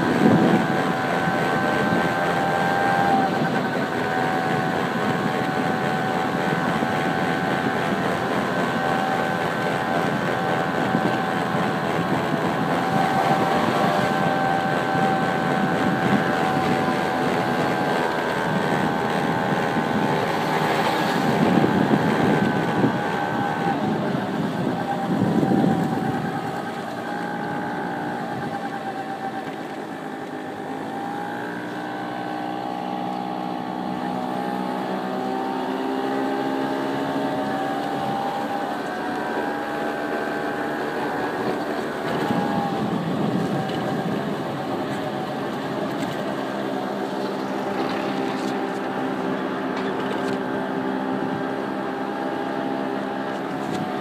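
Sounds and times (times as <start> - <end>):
car engine while driving: 0.0 - 54.0
road noise rushing: 0.0 - 54.0.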